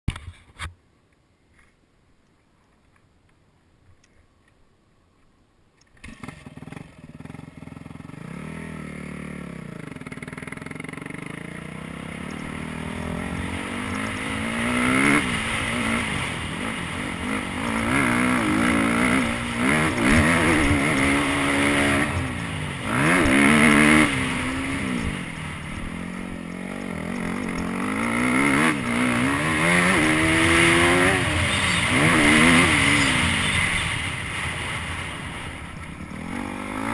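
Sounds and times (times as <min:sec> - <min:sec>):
dirt bike engine revving: 0:06.0 - 0:36.9.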